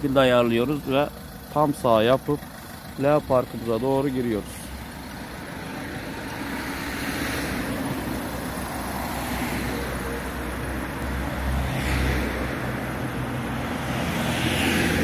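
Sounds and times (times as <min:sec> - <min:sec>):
car engine running at low speed: 0:00.0 - 0:15.0.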